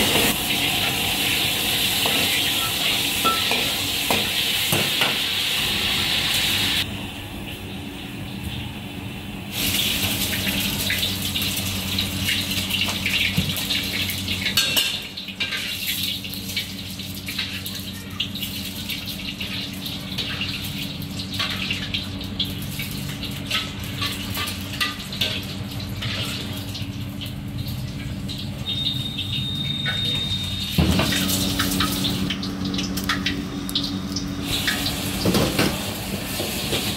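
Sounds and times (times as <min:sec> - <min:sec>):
egg sizzling in hot oil: 0:00.0 - 0:06.9, 0:09.5 - 0:36.9.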